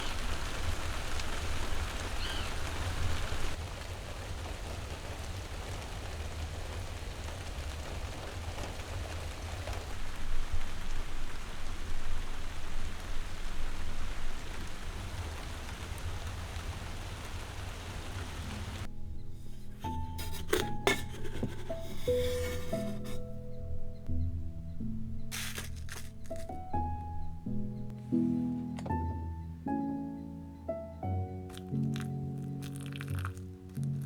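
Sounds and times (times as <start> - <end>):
steady rain hiss: 0.0 - 28.6, 29.6 - 34.0.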